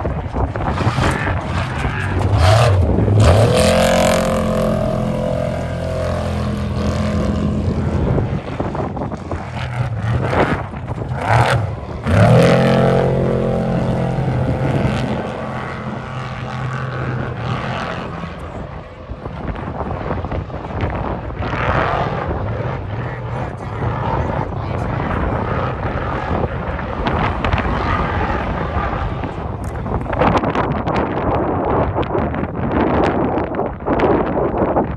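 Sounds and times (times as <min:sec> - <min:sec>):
race vehicle engines revving: 0:00.0 - 0:31.8
low rumble: 0:00.0 - 0:34.9.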